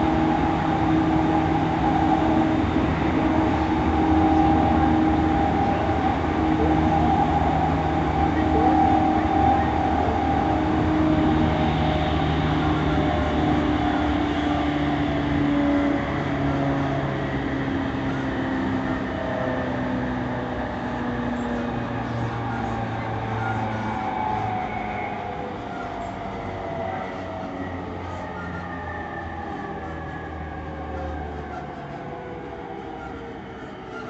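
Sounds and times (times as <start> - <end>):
electric train motor tones: 0.0 - 34.0
rumble of train wheels: 0.0 - 34.0.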